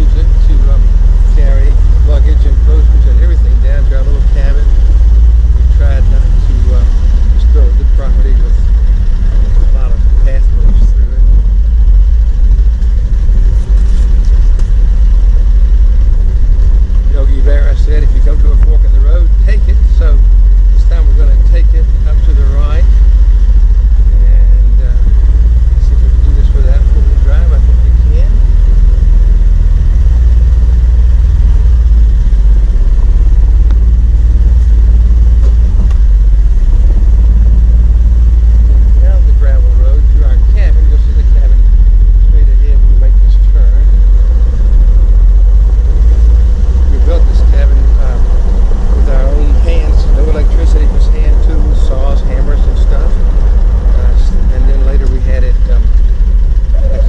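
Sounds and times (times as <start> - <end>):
utility vehicle engine rumbling: 0.0 - 57.0.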